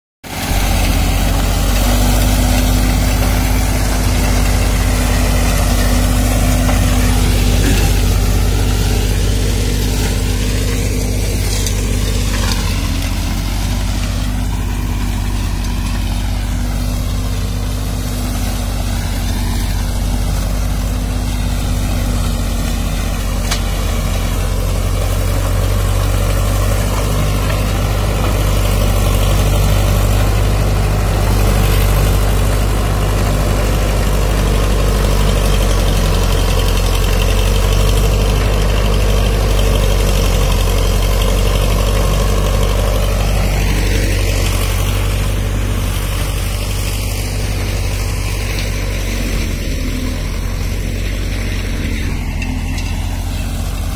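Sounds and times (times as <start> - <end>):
mulcher shredding stalks: 0.2 - 53.9
tractor diesel engine running: 0.2 - 53.9.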